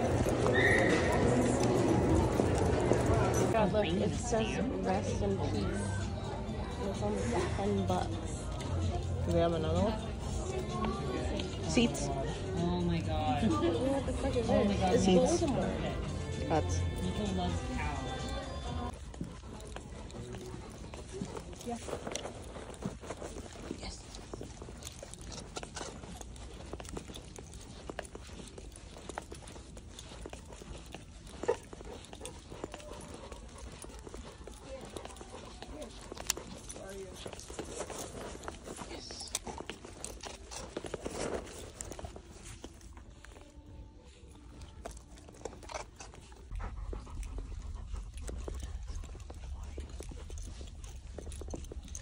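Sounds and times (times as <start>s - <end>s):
dog panting: 0.0s - 52.0s.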